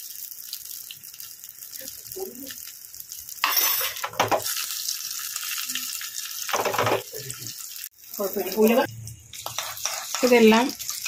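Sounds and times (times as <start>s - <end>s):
spices sizzling in oil: 0.0s - 11.0s.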